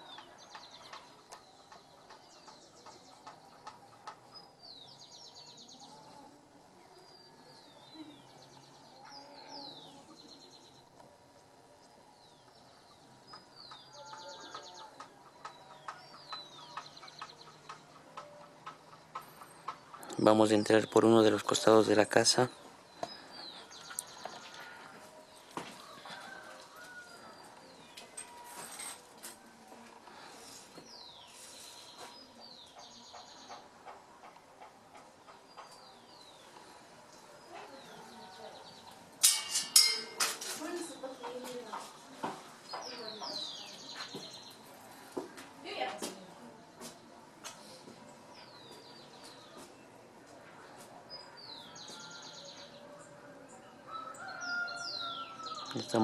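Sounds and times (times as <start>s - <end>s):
birds singing: 0.0s - 28.9s, 29.9s - 45.8s, 46.5s - 56.0s
steady background noise: 0.0s - 56.0s.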